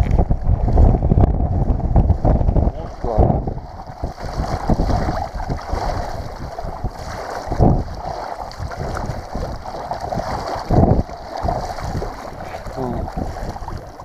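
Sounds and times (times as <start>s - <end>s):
wind buffeting microphone: 0.0s - 14.0s
water sloshing around wading legs: 2.6s - 14.0s.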